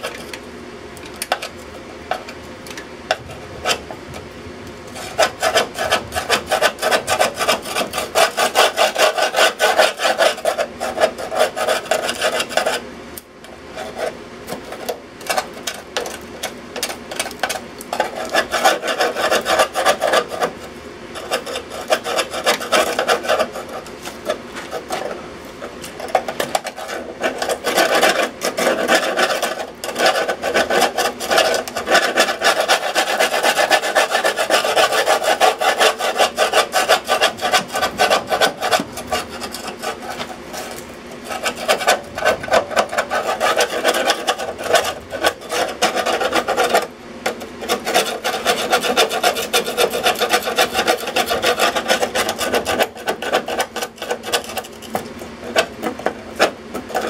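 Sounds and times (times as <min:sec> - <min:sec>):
tool scraping rusty metal: 0:04.9 - 0:12.8, 0:13.7 - 0:57.0.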